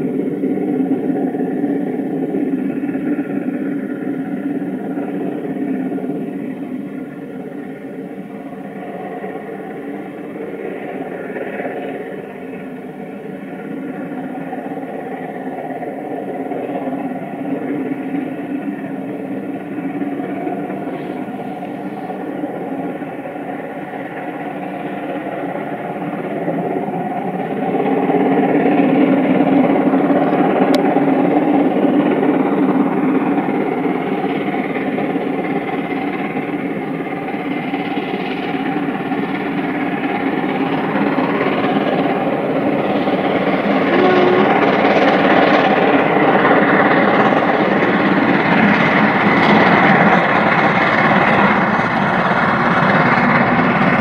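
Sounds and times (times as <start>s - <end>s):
coaches running on rails: 0.0s - 54.0s
steam locomotive working hard: 0.0s - 54.0s.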